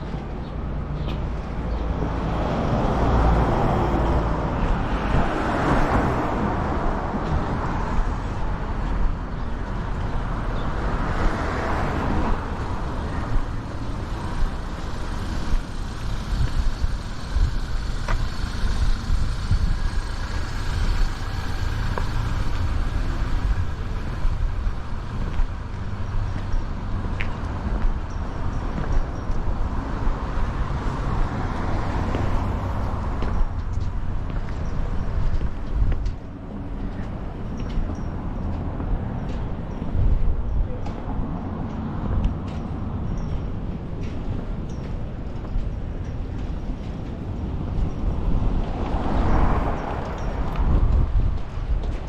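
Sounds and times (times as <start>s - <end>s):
vehicles passing: 0.0s - 52.0s
wind buffeting microphone: 1.2s - 52.0s.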